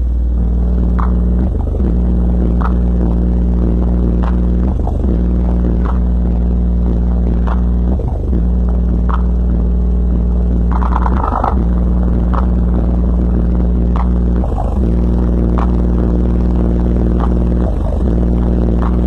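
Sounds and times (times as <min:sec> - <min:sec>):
subwoofer deep bass notes: 0:00.0 - 0:19.0.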